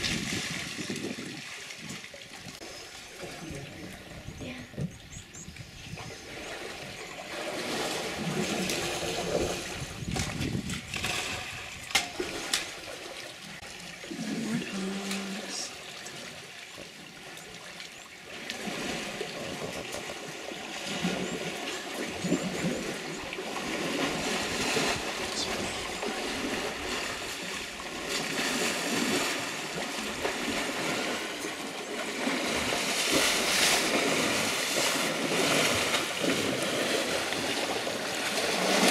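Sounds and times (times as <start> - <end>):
water sloshing and splashing: 0.0 - 38.9.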